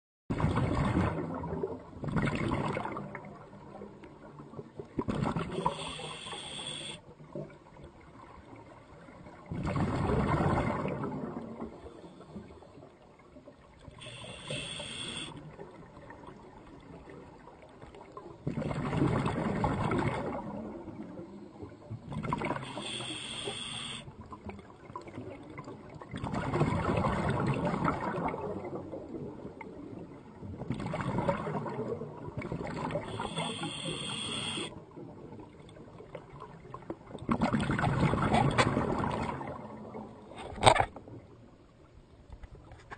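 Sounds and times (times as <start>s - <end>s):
water swells with hiss: 0.3s - 42.9s.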